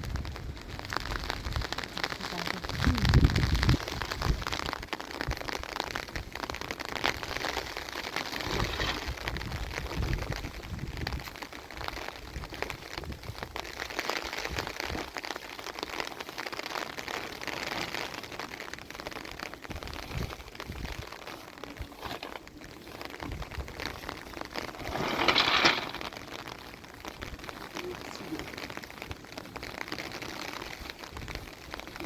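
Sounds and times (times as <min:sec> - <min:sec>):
rain patter: 0:00.0 - 0:32.0.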